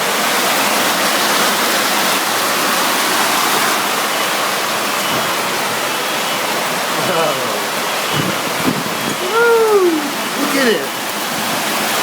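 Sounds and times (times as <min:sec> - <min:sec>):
heavy rain: 0:00.0 - 0:12.0
heavy hail pelting down: 0:01.7 - 0:12.0.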